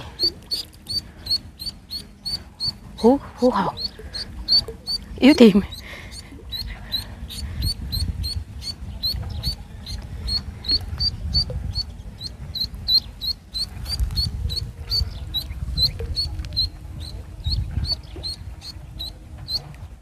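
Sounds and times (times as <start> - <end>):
duckling peeping: 0.0 - 20.0
steady low rumble: 0.0 - 20.0.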